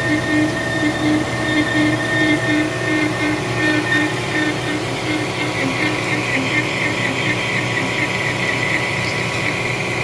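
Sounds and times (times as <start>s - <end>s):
lathe cutting steel whine: 0.0s - 10.0s
low pulsing hum: 0.0s - 10.0s.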